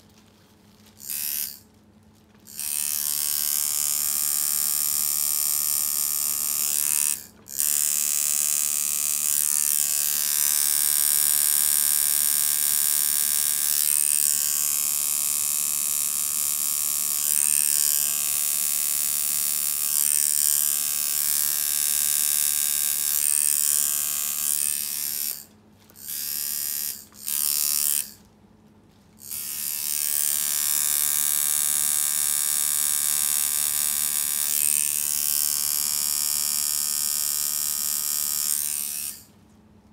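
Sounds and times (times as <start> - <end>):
tattoo machine buzzing: 1.0 - 1.6, 2.5 - 28.2, 29.2 - 39.3.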